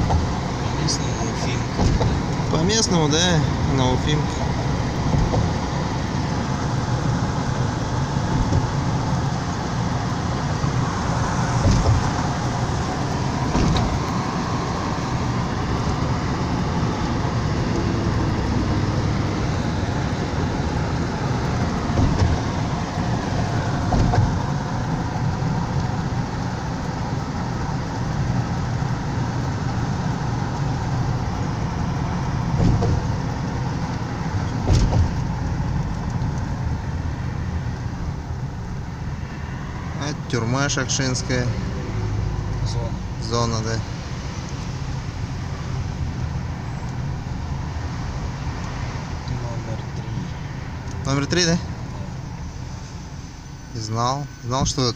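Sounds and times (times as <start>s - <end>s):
car engine and tyre noise: 0.0s - 54.9s.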